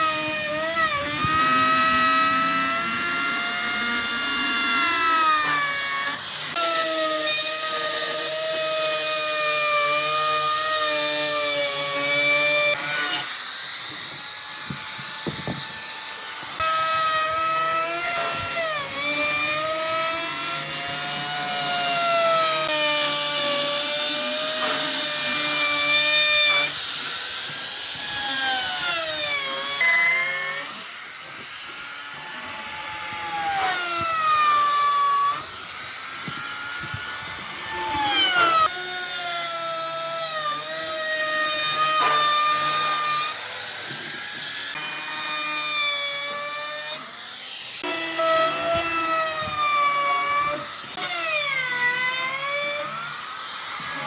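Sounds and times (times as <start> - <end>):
electric power tool whining: 0.0 - 54.0.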